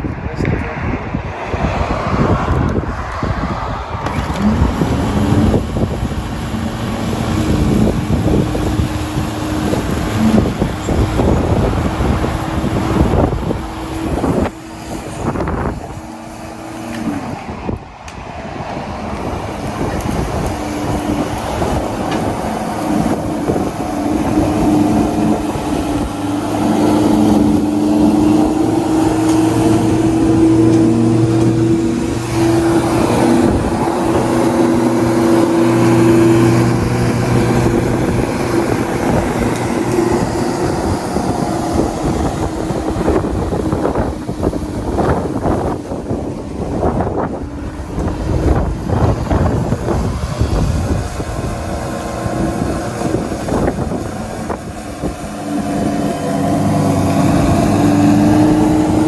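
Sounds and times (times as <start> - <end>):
electric lawnmower running: 2.2 - 59.0.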